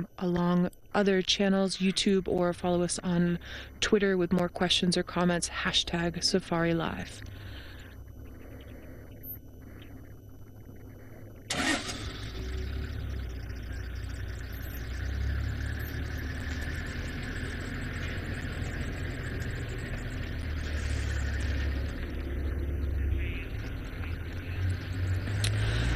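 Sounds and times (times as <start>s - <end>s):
vehicle engine idling: 4.9s - 25.9s.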